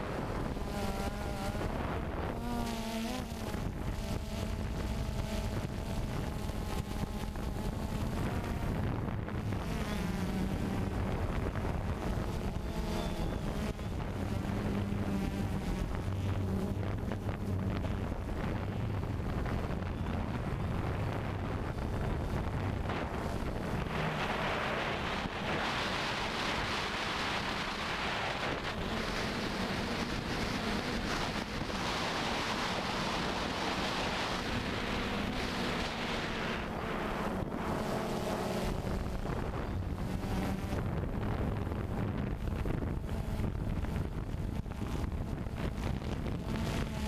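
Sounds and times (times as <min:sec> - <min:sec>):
quadcopter motors humming: 0:00.0 - 0:47.0
wind noise on microphone: 0:00.0 - 0:47.0.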